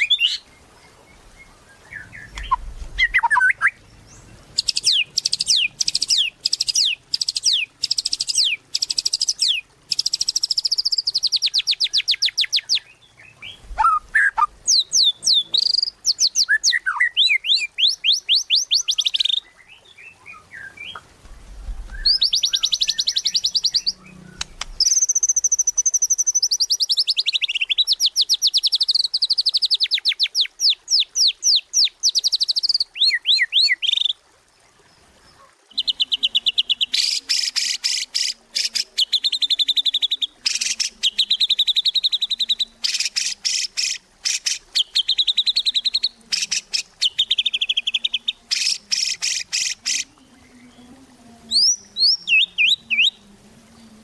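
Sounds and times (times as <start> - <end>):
bird singing whistled trills: 0.0 - 0.6, 1.7 - 21.0, 21.9 - 34.2, 35.7 - 50.7, 51.5 - 53.2.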